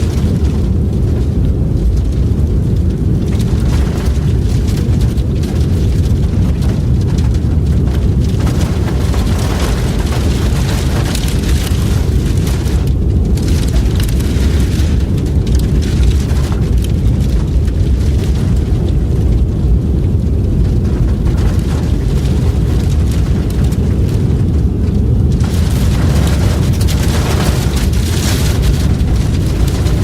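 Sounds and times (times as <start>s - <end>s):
howling blizzard wind: 0.0s - 30.0s.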